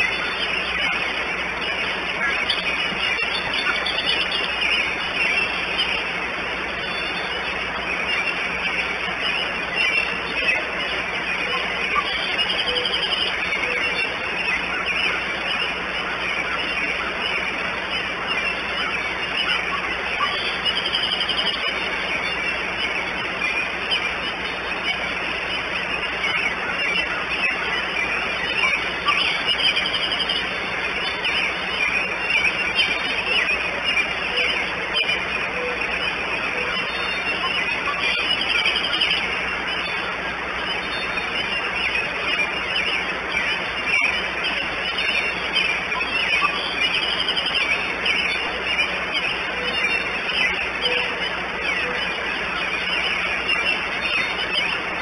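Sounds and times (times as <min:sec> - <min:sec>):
birds trilling: 0:00.0 - 0:55.0
steady outdoor hiss: 0:00.0 - 0:55.0.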